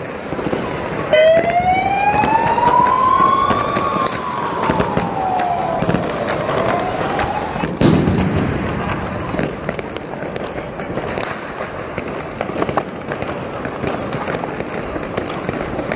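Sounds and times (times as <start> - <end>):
firework bang: 0.0 - 15.9
fireworks crackling and popping: 0.0 - 15.9.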